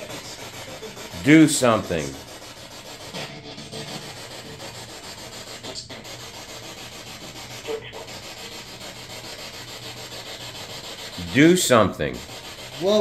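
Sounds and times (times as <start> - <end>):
scratchy hissing noise: 0.0 - 13.0.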